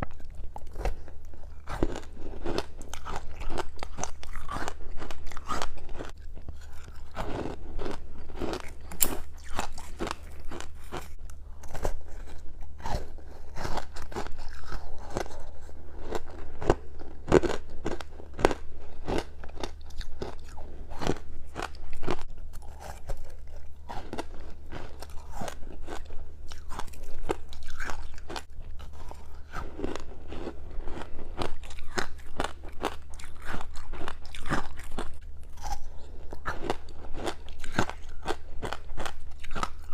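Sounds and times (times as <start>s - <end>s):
steady low hum: 0.0s - 39.9s
person crunching frost: 0.1s - 39.9s.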